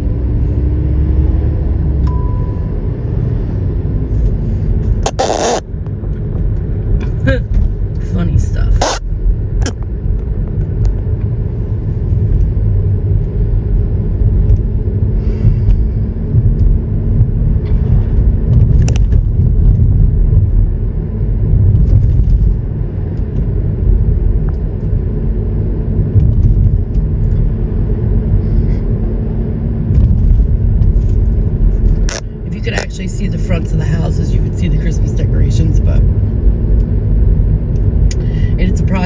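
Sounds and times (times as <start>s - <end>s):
vehicle road and engine noise: 0.0s - 39.0s.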